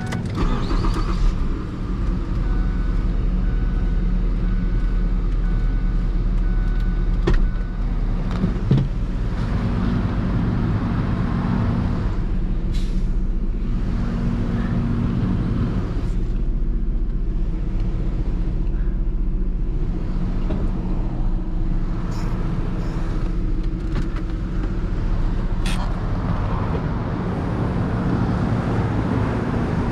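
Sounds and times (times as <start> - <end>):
vehicle engine humming: 0.0 - 29.9.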